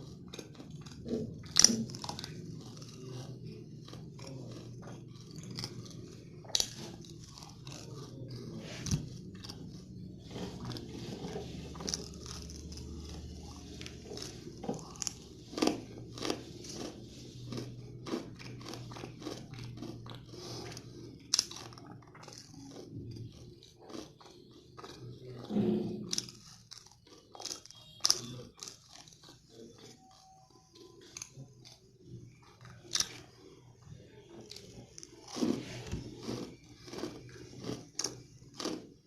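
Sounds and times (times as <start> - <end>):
chewing crunchy candy: 0.0 - 39.0.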